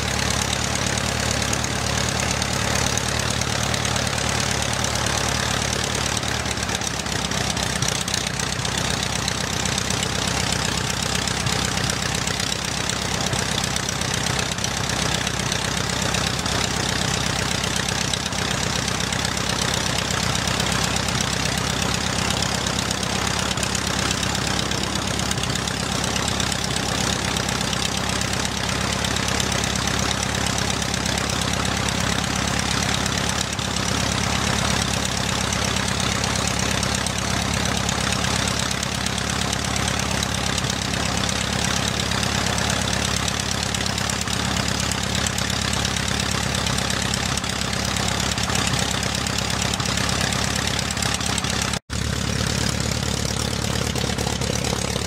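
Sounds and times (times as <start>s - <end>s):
propeller plane engine idling: 0.0s - 55.0s.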